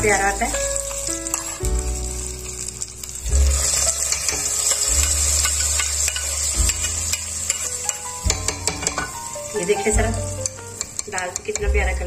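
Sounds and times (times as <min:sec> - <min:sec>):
hot oil sizzling: 0:00.0 - 0:12.0
metal spoon scraping a pan: 0:00.1 - 0:11.7.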